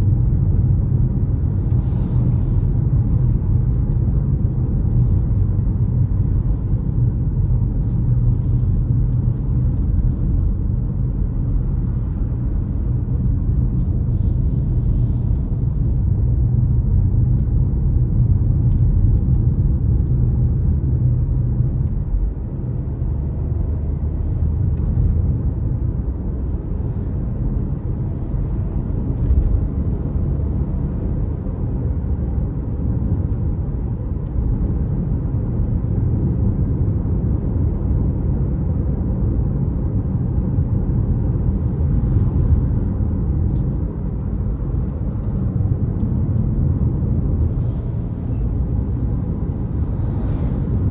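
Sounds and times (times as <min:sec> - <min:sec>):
car engine rumble: 0:00.0 - 0:50.9
road noise: 0:00.0 - 0:50.9.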